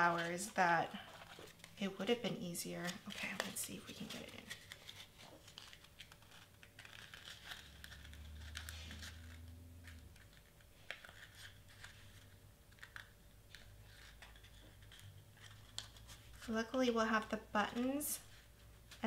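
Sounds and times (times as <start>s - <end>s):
cardstock crinkling and clicking: 0.0s - 19.0s.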